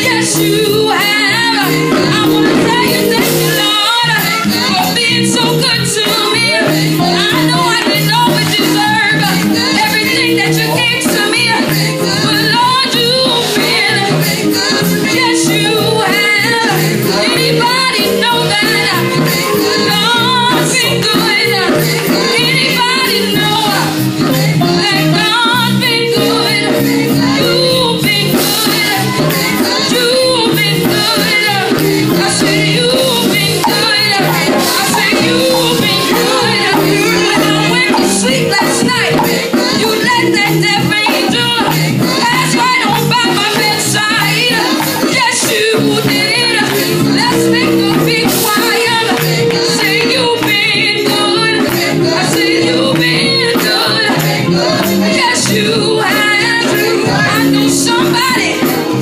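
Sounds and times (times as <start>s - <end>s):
keyboard accompaniment: 0.0s - 59.0s
vocal group singing gospel: 0.0s - 59.0s.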